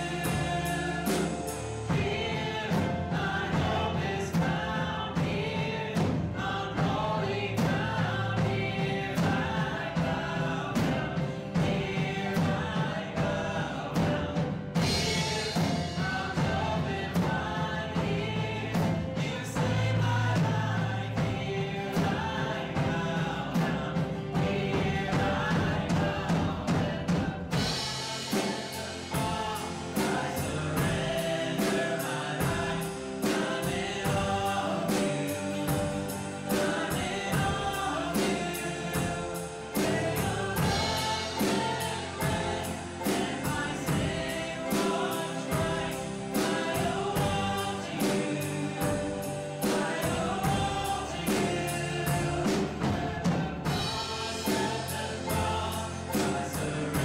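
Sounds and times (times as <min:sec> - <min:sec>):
acoustic guitar: 0:00.0 - 0:57.0
drum kit: 0:00.0 - 0:57.0
piano: 0:00.0 - 0:57.0
voices singing together: 0:00.0 - 0:57.0.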